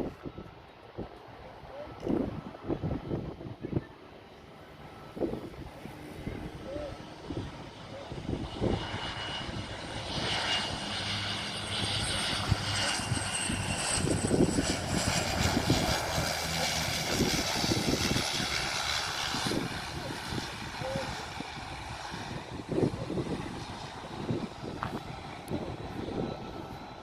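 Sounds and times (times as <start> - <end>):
aircraft engines running: 0.0 - 27.0.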